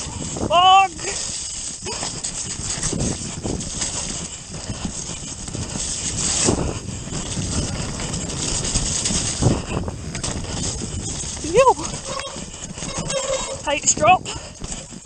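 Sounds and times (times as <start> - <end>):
bike rattling and knocking: 0.0 - 15.0.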